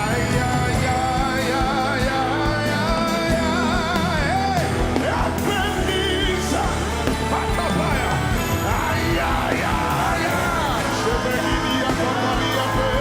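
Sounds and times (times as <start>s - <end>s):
band playing worship music: 0.0s - 13.0s
voices singing ornamented melody: 0.0s - 13.0s.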